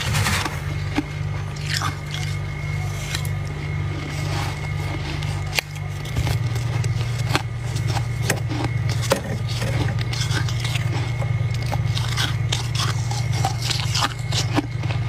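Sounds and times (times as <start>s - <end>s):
frost crunching being chewed: 0.0s - 15.0s
steady low hum: 0.0s - 15.0s.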